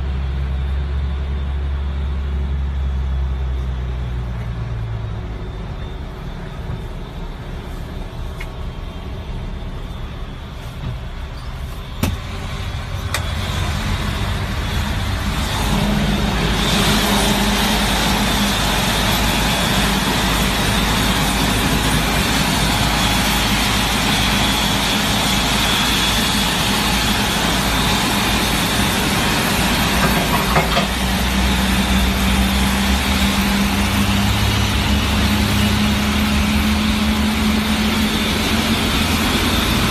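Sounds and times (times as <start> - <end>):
aircraft engine rumble: 0.0 - 39.9
high engine whine: 0.0 - 39.9.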